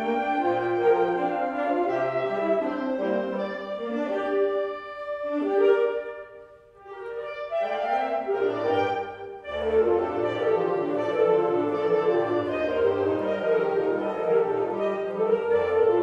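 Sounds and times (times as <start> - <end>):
woodwind ensemble playing chords: 0.0 - 16.0.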